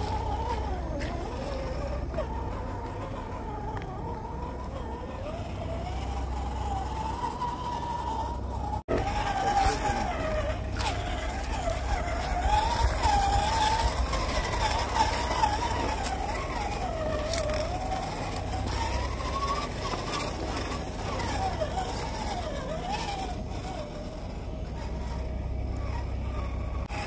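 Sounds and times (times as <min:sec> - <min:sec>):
electric motor and gearbox whine: 0:00.0 - 0:27.0.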